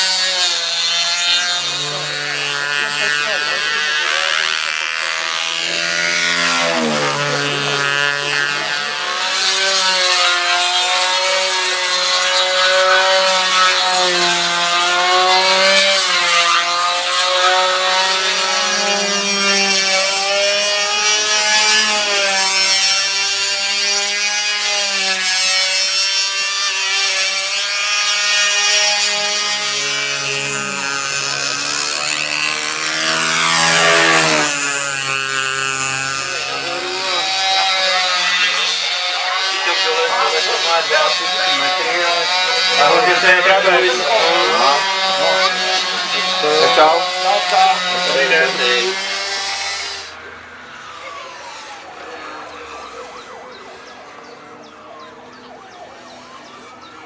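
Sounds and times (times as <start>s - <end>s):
model aircraft engine wavering: 0.0s - 57.0s.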